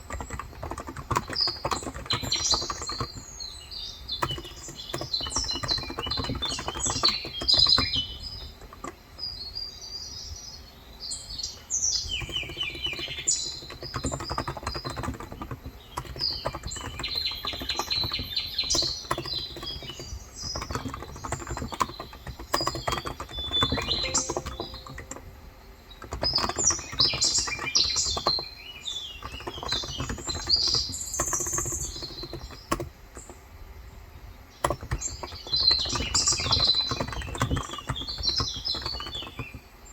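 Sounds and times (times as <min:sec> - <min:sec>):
typing on keyboard: 0:00.0 - 0:09.2, 0:11.7 - 0:33.6, 0:34.6 - 0:39.8
small birds chirping: 0:00.0 - 0:39.9.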